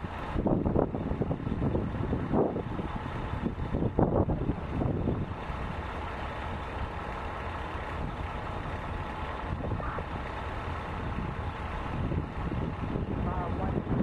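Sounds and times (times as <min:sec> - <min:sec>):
car engines idling: 0:00.0 - 0:14.0.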